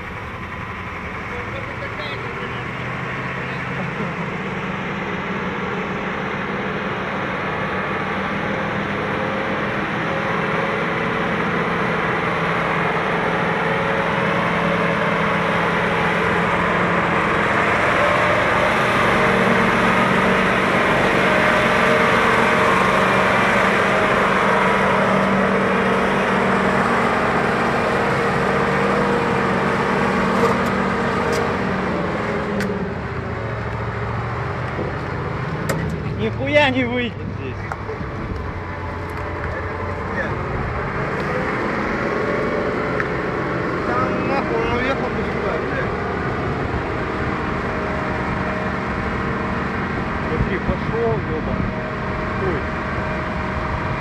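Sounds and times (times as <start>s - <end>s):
diesel truck engine under load: 0.0s - 54.0s.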